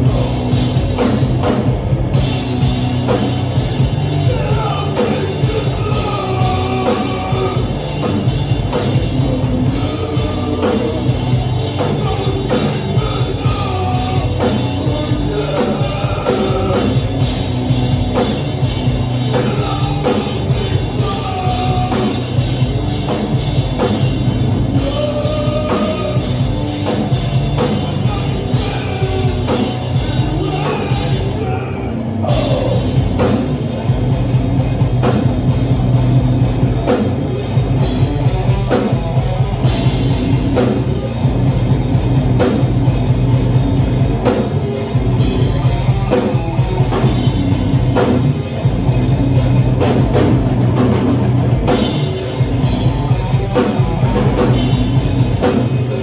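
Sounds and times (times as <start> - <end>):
loud heavy rock band: 0.0 - 56.0.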